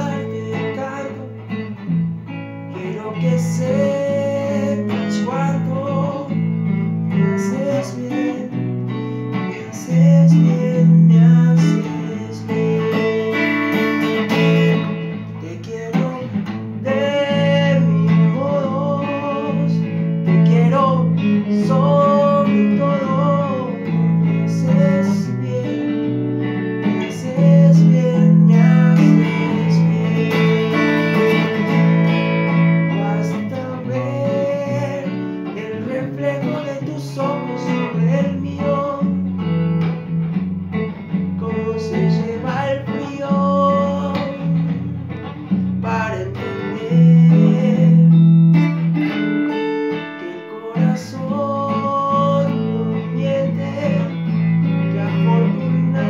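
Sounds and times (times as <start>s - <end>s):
electric guitar melody: 0.0s - 56.0s.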